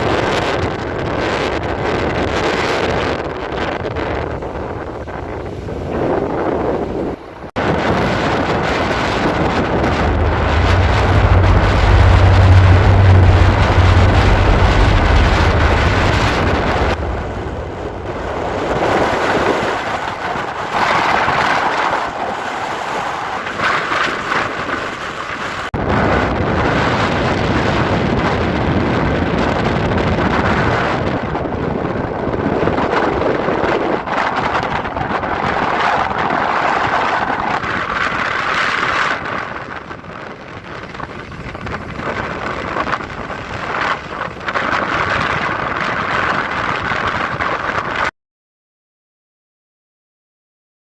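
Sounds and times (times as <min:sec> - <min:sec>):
wind buffeting microphone: 0:00.0 - 0:48.1.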